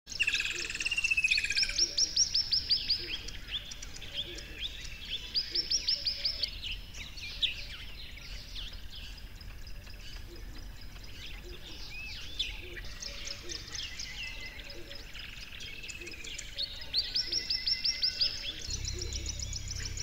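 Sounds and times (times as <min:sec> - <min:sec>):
bird trill: 0:00.1 - 0:20.0
songbirds chirping and singing: 0:00.1 - 0:20.0.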